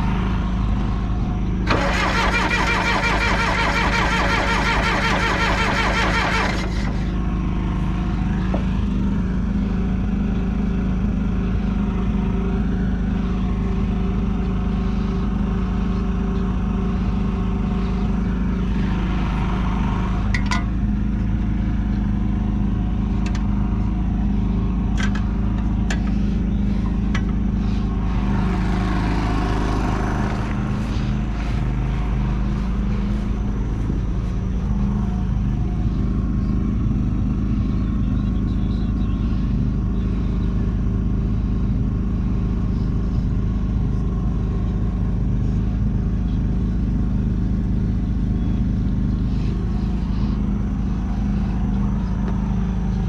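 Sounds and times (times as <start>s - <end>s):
diesel engine running steadily: 0.0s - 53.0s.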